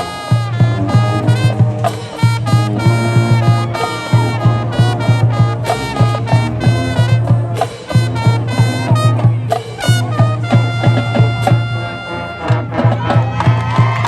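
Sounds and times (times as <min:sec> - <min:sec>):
drum strokes: 0:00.0 - 0:14.0
marching band playing: 0:00.0 - 0:14.0.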